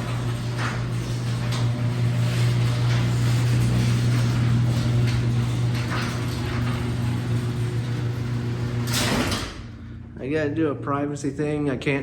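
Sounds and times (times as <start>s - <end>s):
garage door opener motor hum: 0.0s - 10.2s.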